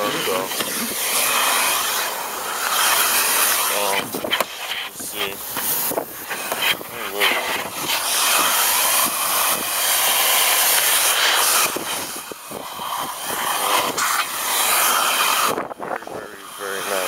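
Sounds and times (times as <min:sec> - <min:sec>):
loud rushing hiss: 0:00.0 - 0:17.0.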